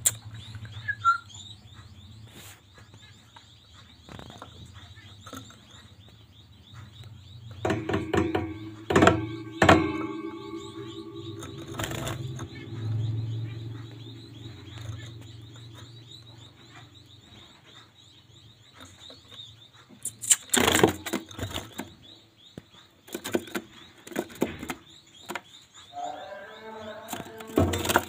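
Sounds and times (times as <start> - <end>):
finches chirping: 0.0 - 28.0.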